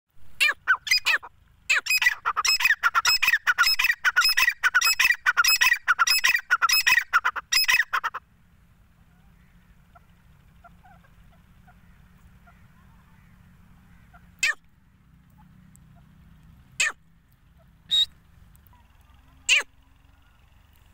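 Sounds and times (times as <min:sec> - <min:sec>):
grey francolin calling: 0:00.4 - 0:08.3, 0:09.0 - 0:14.6, 0:15.3 - 0:20.9.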